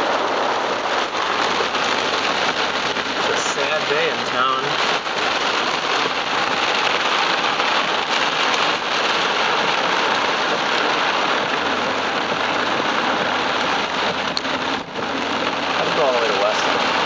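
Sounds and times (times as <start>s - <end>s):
heavy rain on car windshield: 0.0s - 17.0s.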